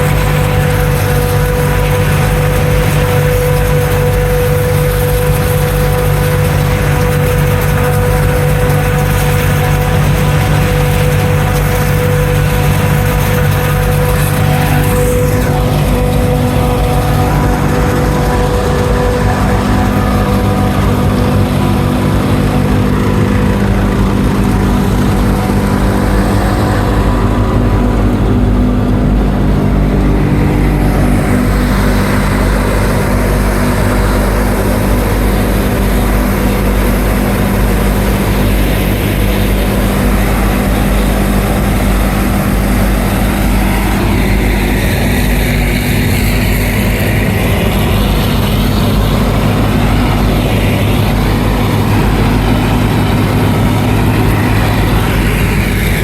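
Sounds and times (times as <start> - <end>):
farm machinery engines humming: 0.0 - 56.0.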